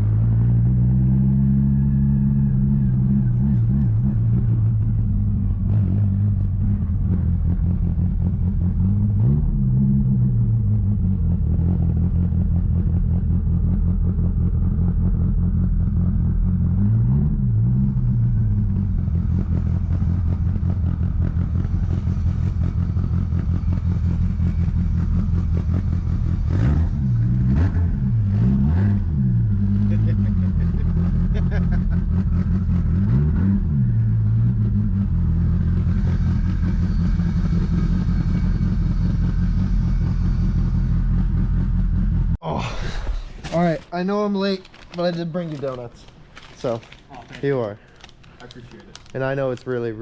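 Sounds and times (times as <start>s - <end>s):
car engine cruising: 0.0s - 50.0s.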